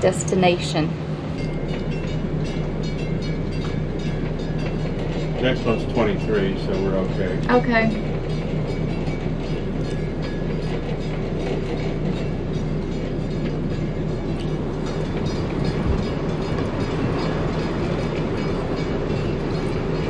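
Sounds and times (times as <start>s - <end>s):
boat engines droning: 0.0s - 20.0s.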